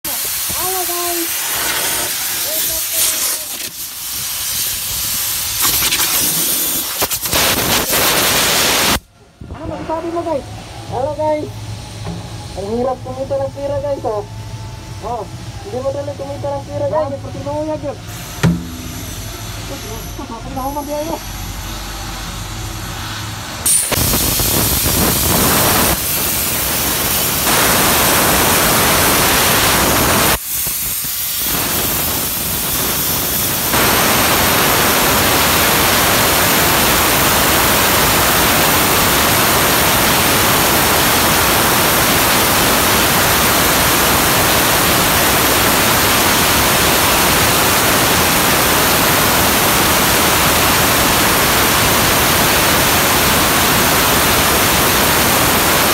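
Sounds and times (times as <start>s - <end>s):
arc welding hiss: 0.0s - 9.1s, 15.7s - 55.9s.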